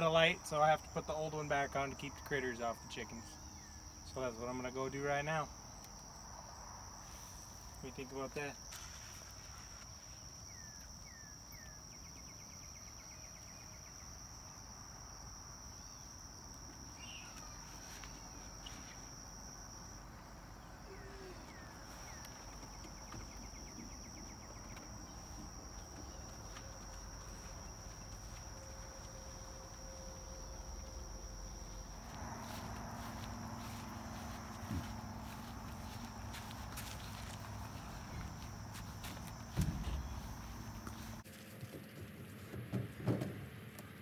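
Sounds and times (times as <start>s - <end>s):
crickets trilling: 0.0s - 41.3s.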